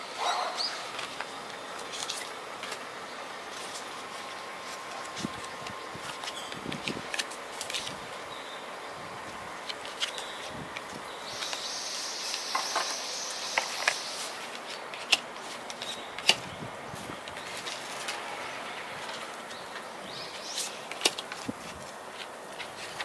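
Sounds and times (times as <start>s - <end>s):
paper rustling: 0.9s - 2.9s, 3.5s - 8.2s, 9.2s - 11.7s, 12.3s - 23.0s.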